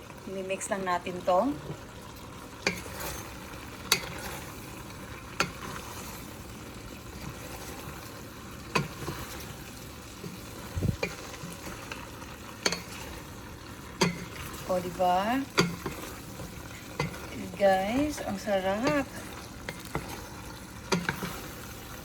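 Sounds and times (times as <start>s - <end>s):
food sizzling in a pan: 0.0s - 22.0s
utensil stirring food in a pan: 0.0s - 22.0s.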